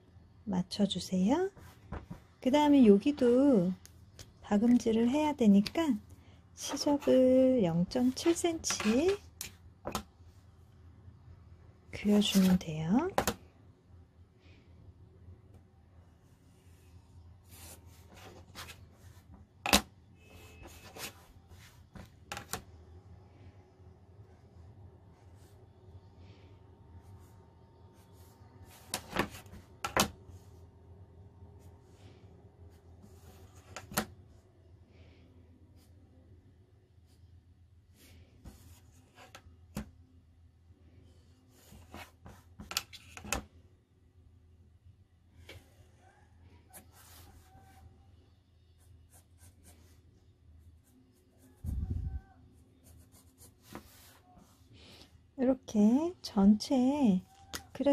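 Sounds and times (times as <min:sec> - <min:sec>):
faint low hum: 0:00.0 - 0:57.9.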